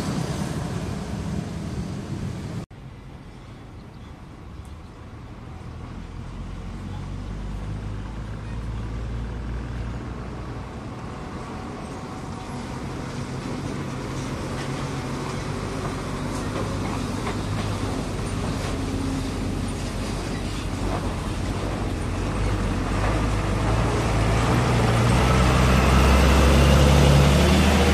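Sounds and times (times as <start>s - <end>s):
truck diesel engines rumbling: 0.0s - 27.9s.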